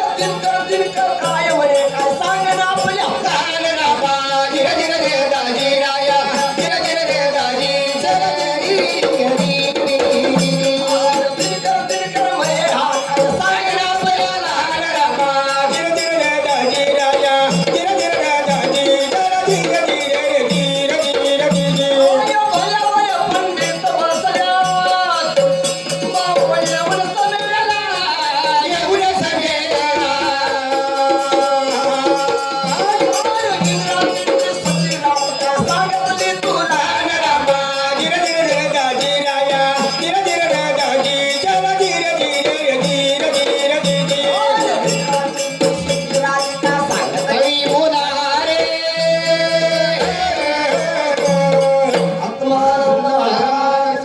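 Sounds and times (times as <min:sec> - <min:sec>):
drum beats: 0:00.0 - 0:54.0.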